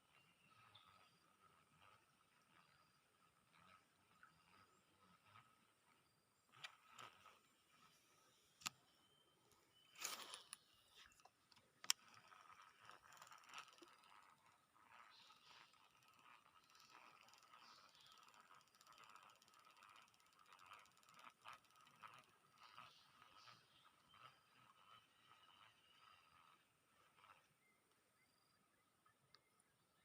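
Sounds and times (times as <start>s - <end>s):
fishing reel ticking and whirring: 0.0s - 30.0s
sharp reel clicks: 3.6s - 28.0s.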